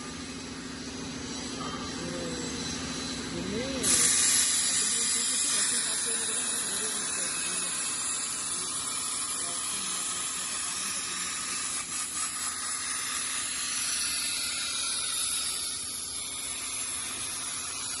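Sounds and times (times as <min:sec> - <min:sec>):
plasma cutter arc hissing: 0:00.8 - 0:18.0.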